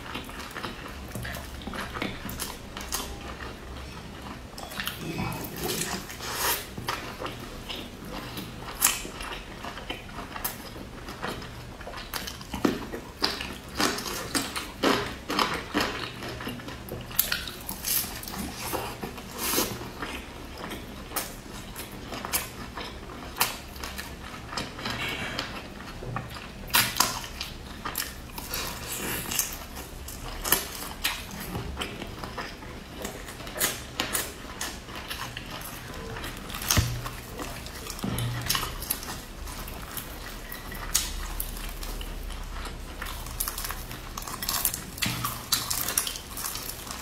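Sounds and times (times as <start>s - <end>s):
crunchy chewing: 0.0s - 47.0s.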